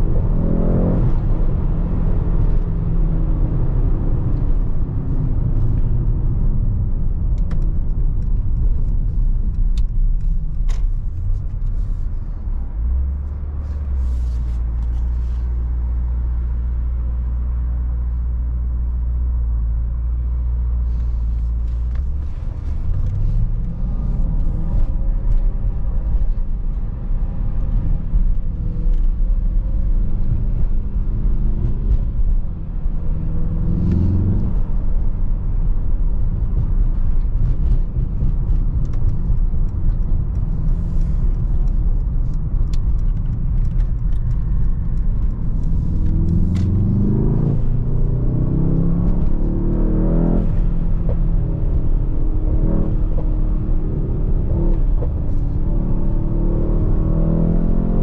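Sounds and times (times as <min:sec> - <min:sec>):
car engine rumbling and revving: 0:00.0 - 0:58.0.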